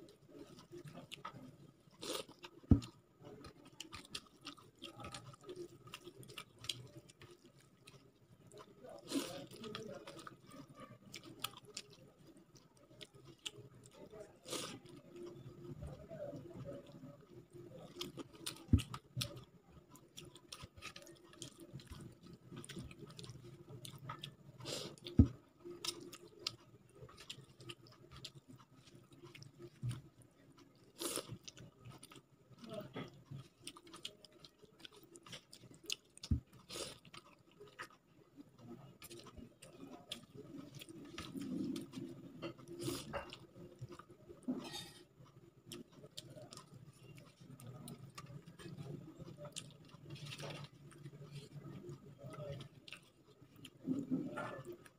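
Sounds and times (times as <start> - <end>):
chewing and mouth sounds: 0.0 - 54.9.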